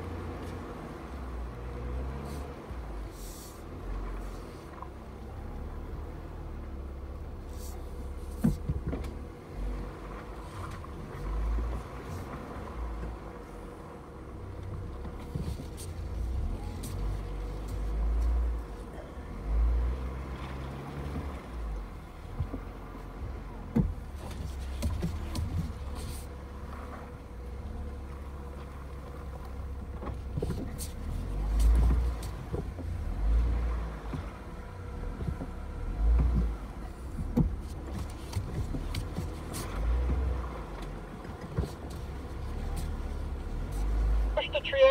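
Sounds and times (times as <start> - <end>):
vehicle engine rumble: 0.0 - 44.9.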